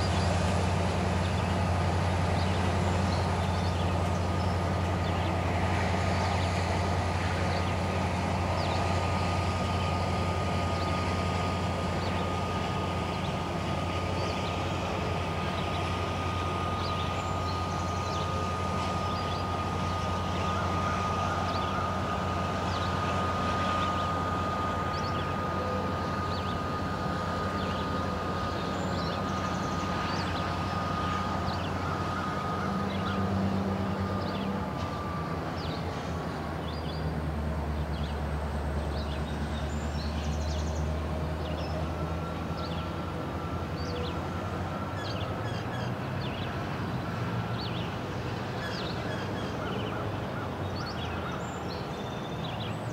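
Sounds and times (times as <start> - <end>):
diesel locomotive low drone: 0.0 - 52.9.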